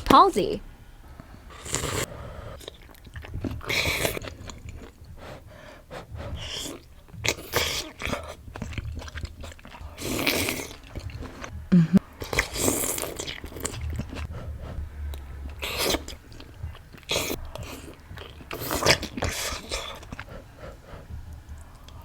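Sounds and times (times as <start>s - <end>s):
wet chewing: 1.0s - 22.0s
mouth clicks: 1.2s - 22.0s.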